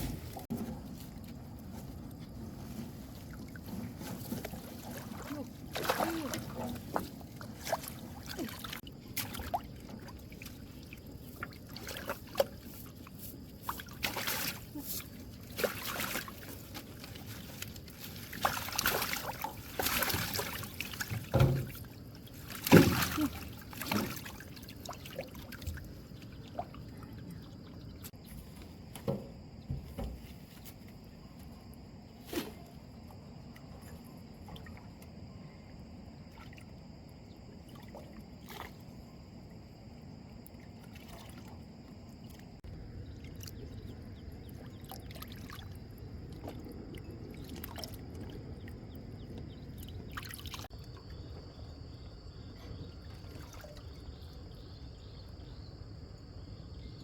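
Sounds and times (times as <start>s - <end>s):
water splashing around boat: 0.0s - 31.3s, 32.2s - 55.1s.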